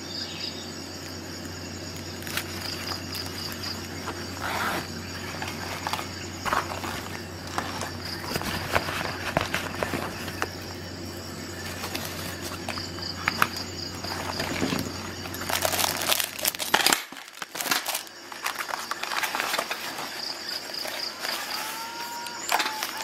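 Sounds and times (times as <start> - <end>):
low steady hum: 0.0 - 21.6
foil packet crinkling: 1.9 - 10.7, 11.6 - 23.0.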